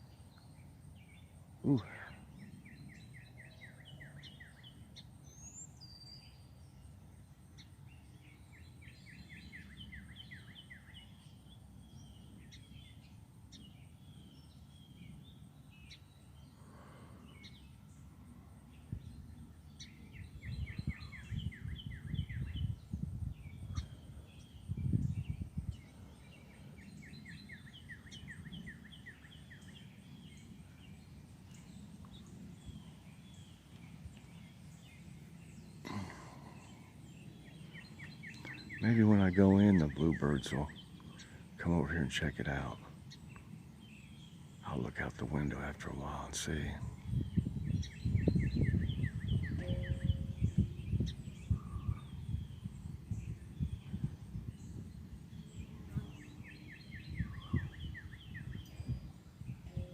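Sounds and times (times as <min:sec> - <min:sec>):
songbird trilling: 0:00.0 - 0:16.6, 0:18.7 - 0:59.9
faint outdoor background noise: 0:00.0 - 0:59.9.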